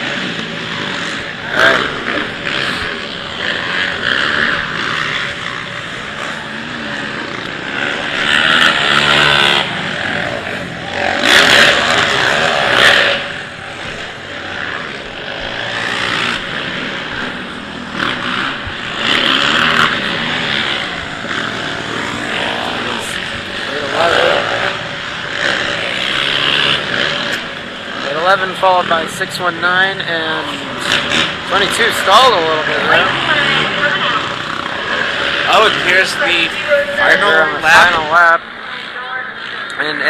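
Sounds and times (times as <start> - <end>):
quad engines revving: 0.0 - 40.0.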